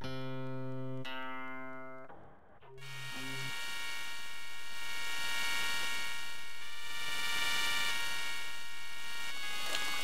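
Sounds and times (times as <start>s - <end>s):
synthesized buzzy chord: 0.0s - 10.0s.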